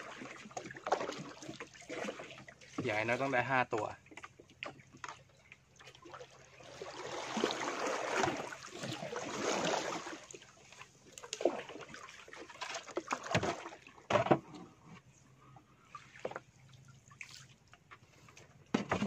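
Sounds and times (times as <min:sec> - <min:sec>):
sea water sloshing and splashing: 0:00.0 - 0:19.0.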